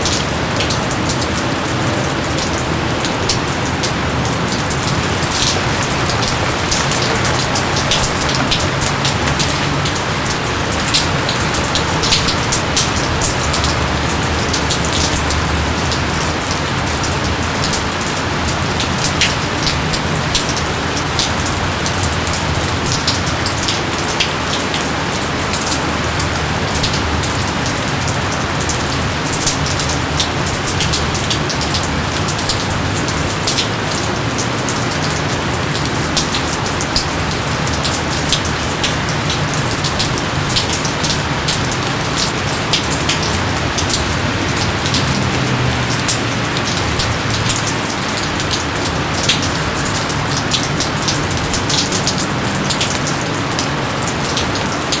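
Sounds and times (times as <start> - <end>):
heavy rain hissing: 0.0 - 55.0
raindrops pattering on surfaces: 0.0 - 55.0.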